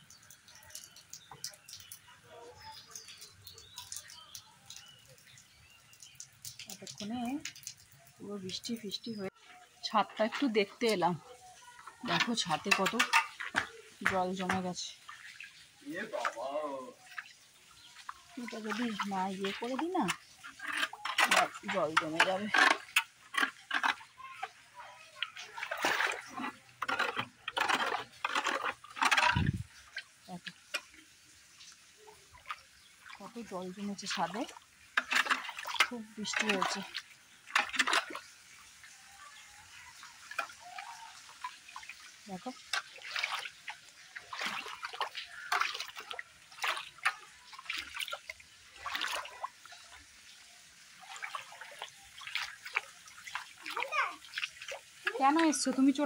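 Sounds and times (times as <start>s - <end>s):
rainwater splashing and sloshing: 0.0s - 56.0s.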